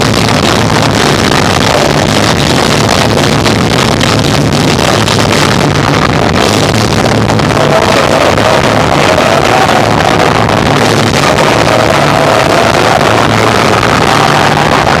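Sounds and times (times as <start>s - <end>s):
distorted live rock band: 0.0s - 15.0s.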